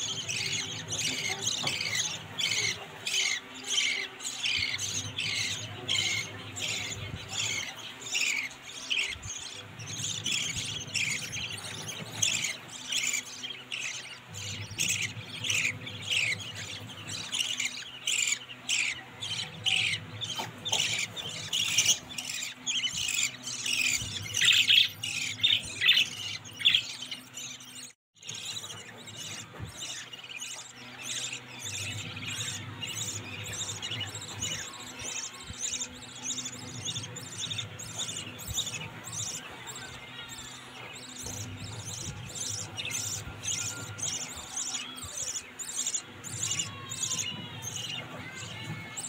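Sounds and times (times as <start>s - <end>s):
budgerigar chicks chirping: 0.0s - 49.0s.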